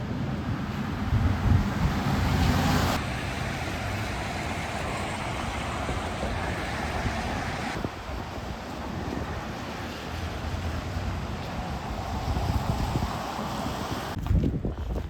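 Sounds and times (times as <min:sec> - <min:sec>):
traffic rushing: 0:00.0 - 0:14.2
wind noise on microphone: 0:00.0 - 0:15.0
tyres hissing on wet road: 0:00.1 - 0:14.2.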